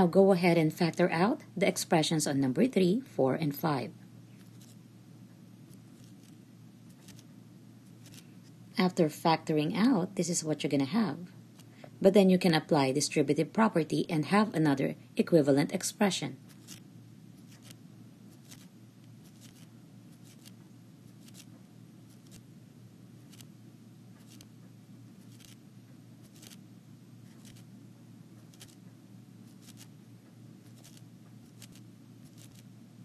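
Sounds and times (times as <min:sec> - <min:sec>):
low room tone hum: 0:00.0 - 0:33.0.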